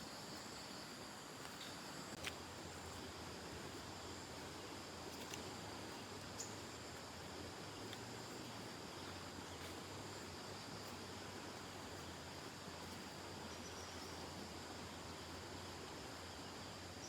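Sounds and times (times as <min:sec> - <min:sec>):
faint outdoor hiss: 0:00.0 - 0:17.0
high-pitched insect chorus: 0:00.0 - 0:17.0.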